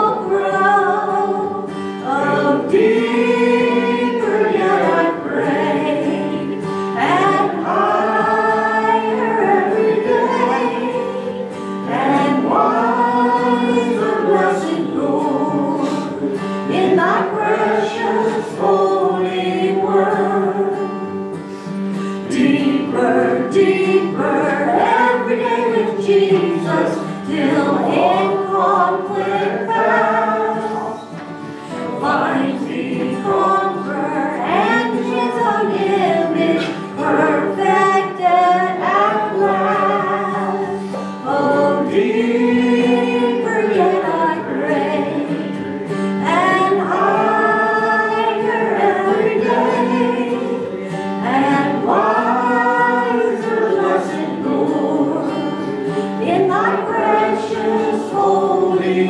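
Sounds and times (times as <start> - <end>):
choir singing gospel song: 0.0 - 59.0.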